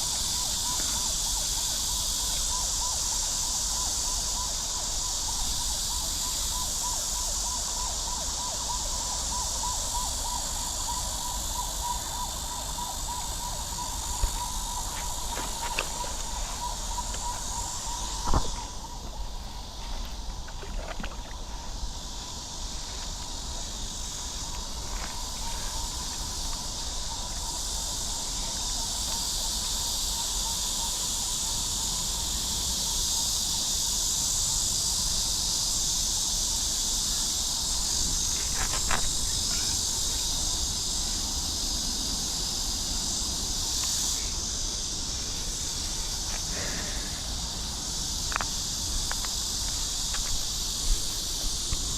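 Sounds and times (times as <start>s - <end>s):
insects chirping chorus: 0.0s - 51.9s.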